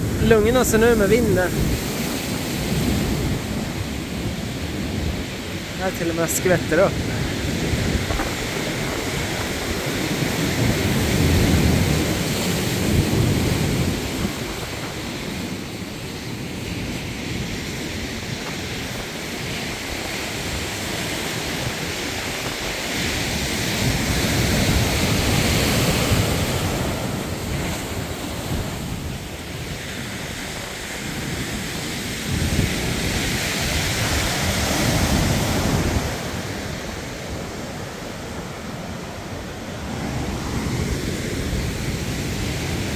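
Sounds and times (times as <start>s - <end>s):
surf breaking on shore: 0.0s - 42.9s
wind buffeting microphone: 0.0s - 42.9s.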